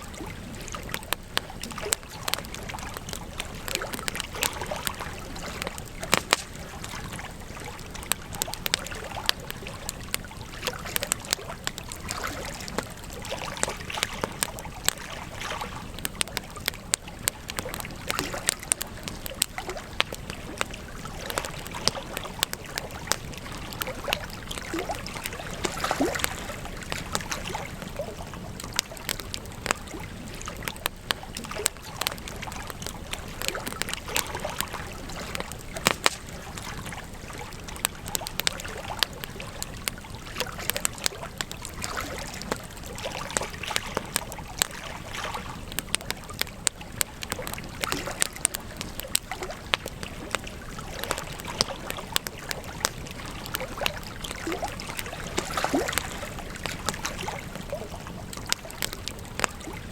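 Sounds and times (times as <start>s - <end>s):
campfire crackling and popping: 0.0s - 59.9s
soft hiss of burning: 0.0s - 59.9s.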